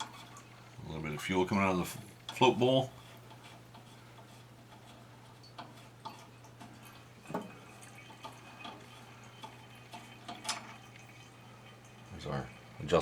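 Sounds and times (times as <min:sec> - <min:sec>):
gasoline dripping: 0:00.0 - 0:13.0.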